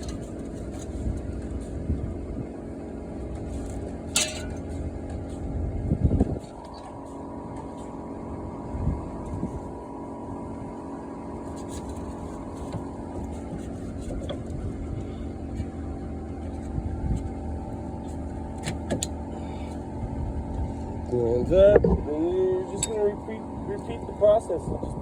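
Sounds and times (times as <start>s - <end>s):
steady mechanical motor hum: 0.0s - 25.0s.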